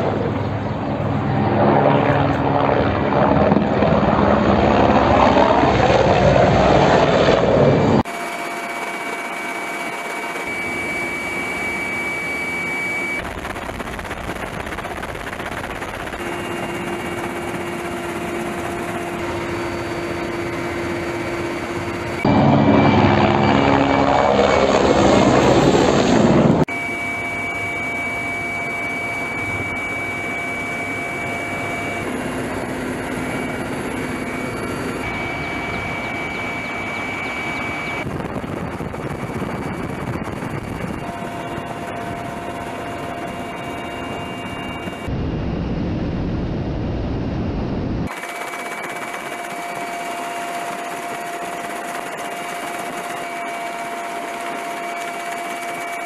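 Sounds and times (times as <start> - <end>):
helicopter cabin rotor and turbine noise: 0.0 - 56.0
helicopter passing close: 0.0 - 56.0
high turbine whine: 0.0 - 56.0.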